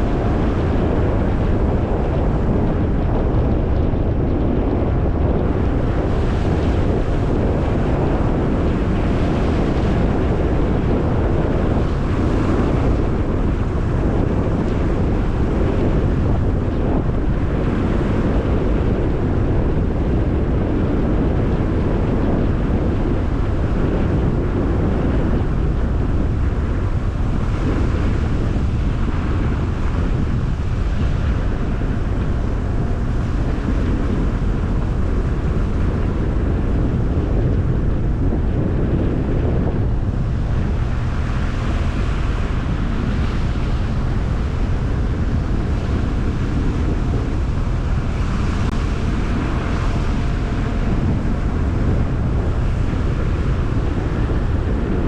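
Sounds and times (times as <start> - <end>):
tyre and road noise: 0.0 - 55.0
wind buffeting microphone: 0.0 - 55.0.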